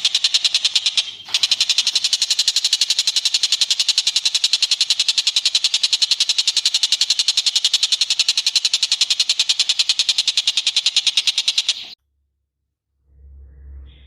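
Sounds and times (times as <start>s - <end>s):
bird trilling: 0.0s - 12.0s.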